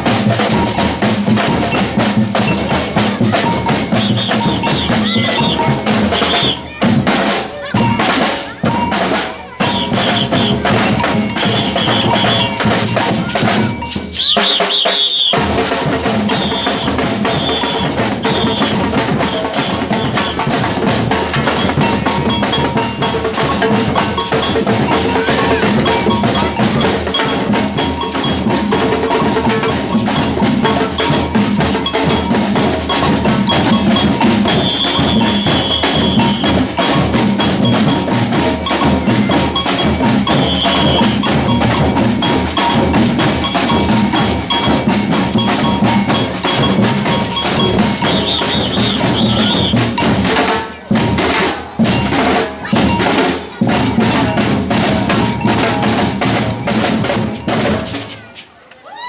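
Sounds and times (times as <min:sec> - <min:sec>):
samba percussion ensemble: 0:00.0 - 0:59.0.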